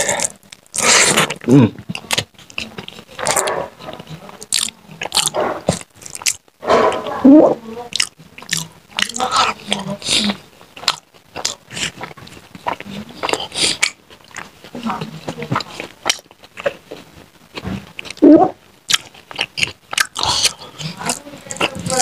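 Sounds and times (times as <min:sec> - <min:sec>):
wet chewing: 0:00.0 - 0:07.2, 0:07.9 - 0:22.0.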